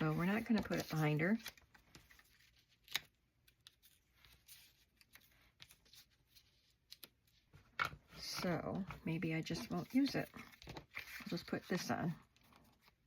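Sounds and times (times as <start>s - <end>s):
paper and cardstock handling: 0.0s - 13.0s.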